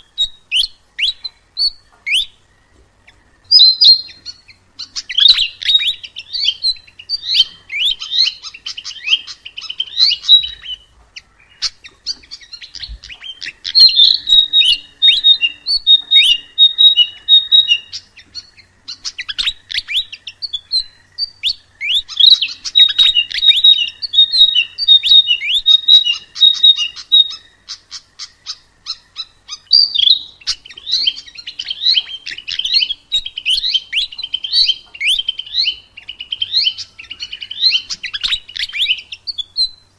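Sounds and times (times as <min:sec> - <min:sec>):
flycatcher chirping song: 0:00.0 - 0:39.9.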